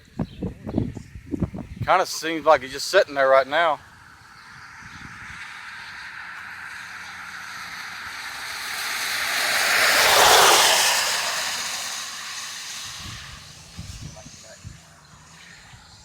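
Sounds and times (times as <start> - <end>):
passing vehicle tyre noise: 1.0 - 16.0.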